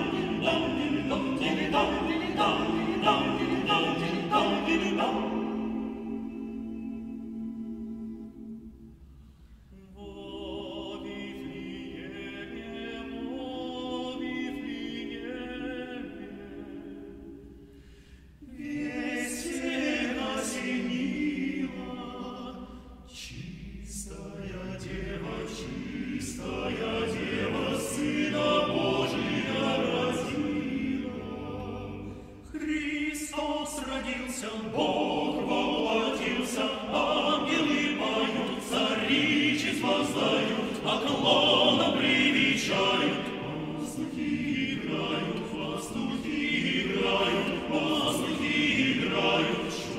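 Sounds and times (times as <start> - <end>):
men singing carol a cappella: 0.0 - 7.1, 10.0 - 17.3, 18.6 - 49.9.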